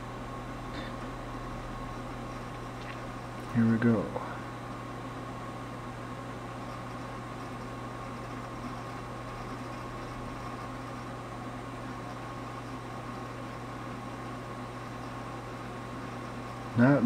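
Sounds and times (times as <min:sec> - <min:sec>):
computer cooling fans whirring: 0:00.0 - 0:17.0.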